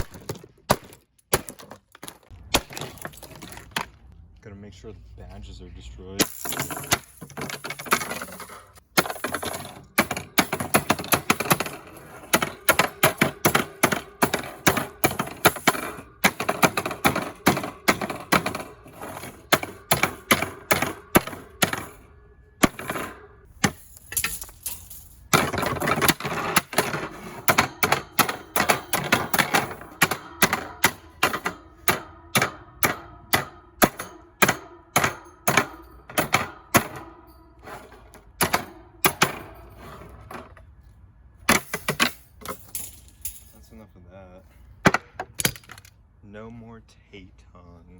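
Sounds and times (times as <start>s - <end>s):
blows smashing plastic and metal: 0.0s - 4.1s, 6.2s - 40.6s.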